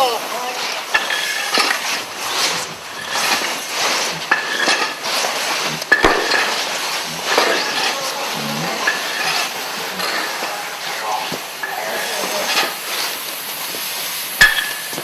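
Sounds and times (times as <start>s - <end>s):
breathing regulator hissing: 0.0s - 15.0s.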